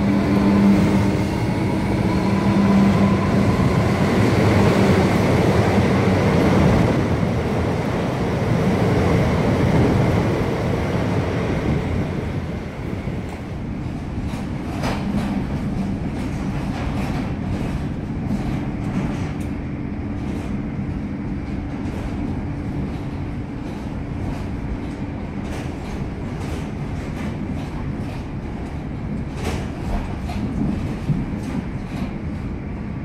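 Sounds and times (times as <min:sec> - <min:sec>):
low rumble of train wheels: 0:00.0 - 0:33.0.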